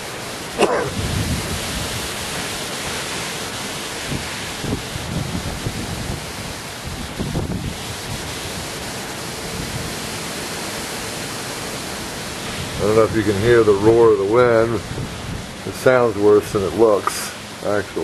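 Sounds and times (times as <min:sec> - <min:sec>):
strong wind roaring: 0:00.0 - 0:18.0
wind buffeting microphone: 0:00.8 - 0:10.4, 0:11.9 - 0:17.5.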